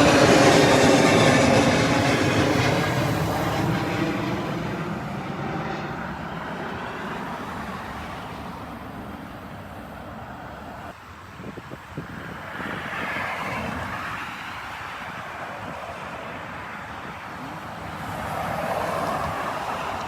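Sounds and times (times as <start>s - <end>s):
jet engines roaring: 0.0s - 11.0s, 12.0s - 20.0s.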